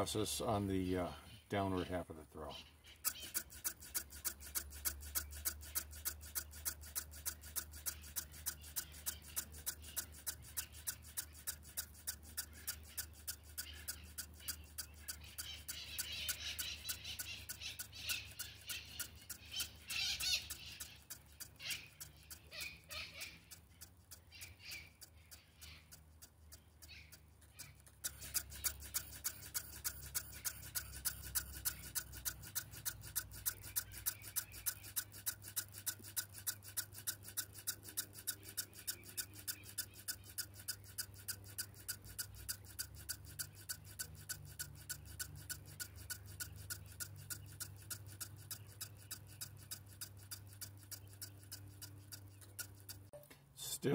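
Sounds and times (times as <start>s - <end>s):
servo buzzing ticks: 0.0s - 53.9s.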